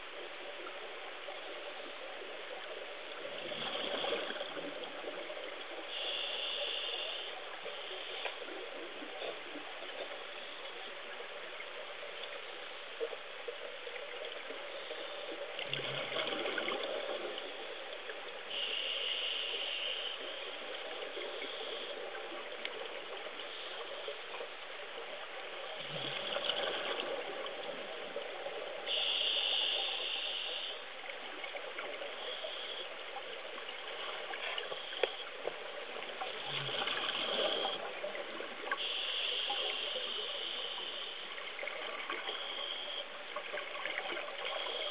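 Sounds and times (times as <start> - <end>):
muffled underwater water noise: 0.0 - 44.9.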